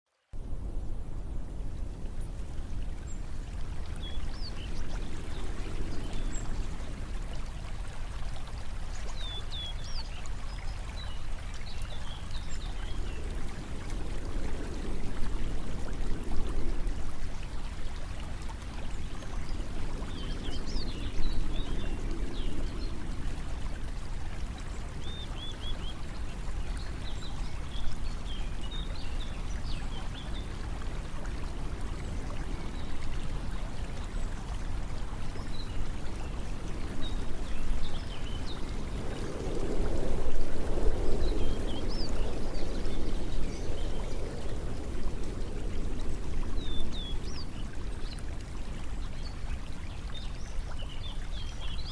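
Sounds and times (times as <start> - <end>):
flowing water: 0.2 - 51.9.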